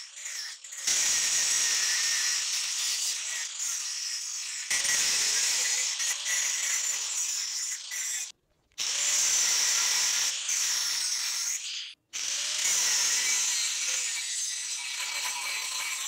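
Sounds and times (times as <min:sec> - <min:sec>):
angle grinder cutting steel: 0:00.0 - 0:16.0.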